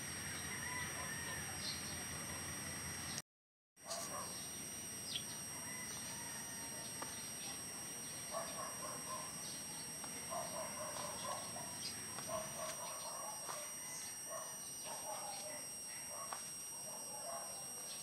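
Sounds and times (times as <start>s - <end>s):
bird calls: 0.2s - 2.1s, 3.9s - 16.4s.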